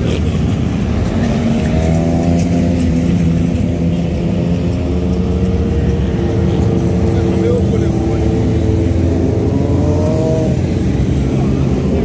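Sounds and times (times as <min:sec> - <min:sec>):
cars passing: 0:00.0 - 0:12.0
motorcycles passing: 0:00.0 - 0:12.0.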